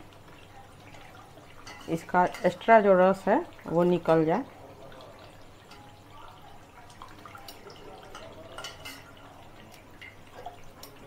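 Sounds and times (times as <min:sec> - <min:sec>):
syrup dripping: 0:00.0 - 0:11.0.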